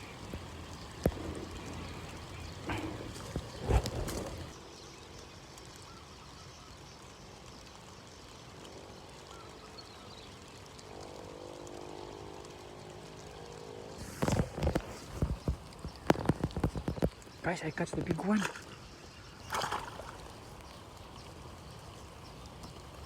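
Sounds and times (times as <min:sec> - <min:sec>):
faint outdoor background: 0:00.0 - 0:23.0.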